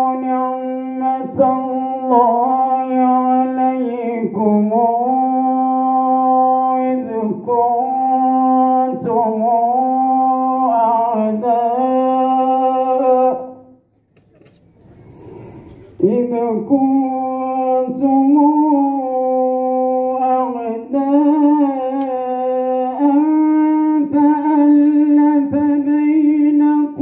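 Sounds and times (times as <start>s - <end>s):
man chanting melodically: 0.0s - 13.8s, 15.3s - 27.0s.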